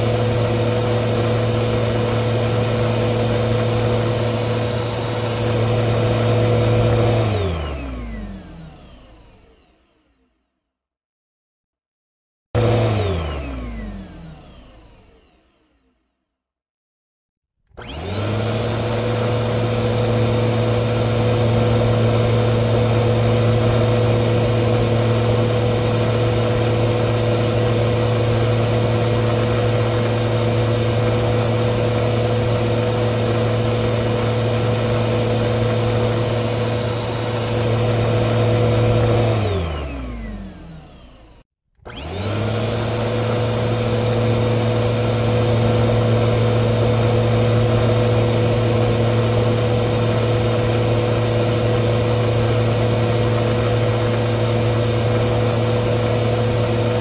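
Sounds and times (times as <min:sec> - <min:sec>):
vacuum cleaner motor whining: 0:00.0 - 0:10.3, 0:12.6 - 0:15.9, 0:17.7 - 0:57.0.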